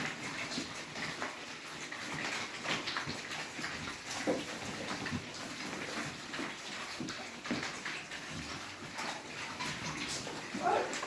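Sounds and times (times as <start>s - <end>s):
pigs feeding and moving: 0.0s - 11.0s.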